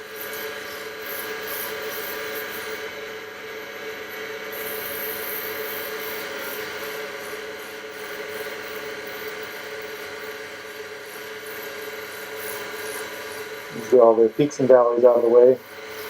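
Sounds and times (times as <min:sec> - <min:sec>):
wood lathe whine: 0:00.0 - 0:16.0.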